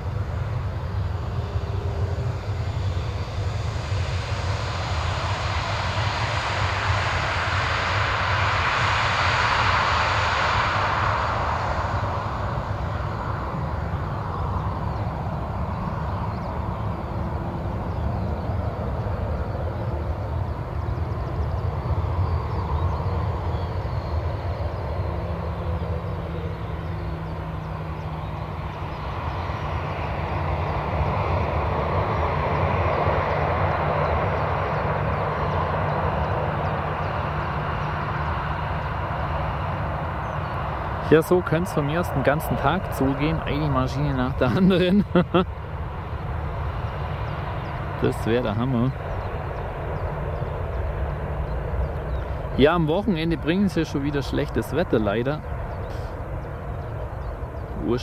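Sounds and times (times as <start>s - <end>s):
low rumble: 0.0s - 57.9s
jet engines roaring: 0.0s - 58.0s.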